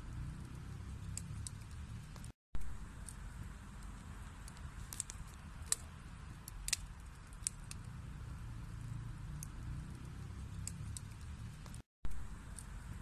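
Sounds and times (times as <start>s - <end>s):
low rumble of flames: 0.0s - 13.0s
burning wood popping and crackling: 0.1s - 13.0s.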